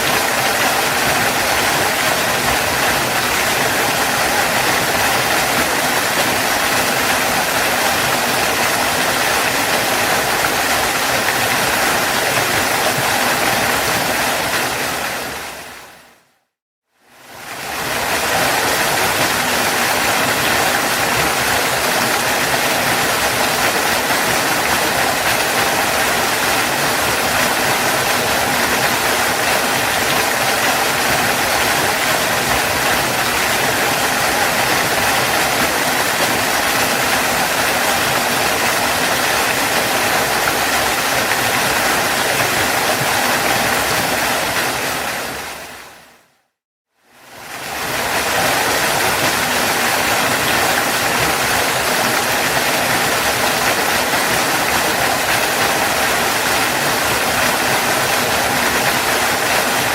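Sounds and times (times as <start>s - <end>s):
waterfall rushing: 0.0s - 16.2s, 17.2s - 46.3s, 47.2s - 59.9s.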